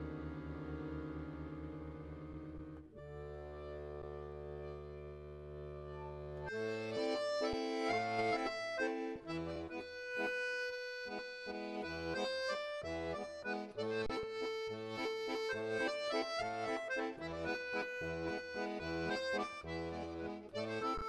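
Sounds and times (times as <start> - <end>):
held chord: 0.0 - 21.0.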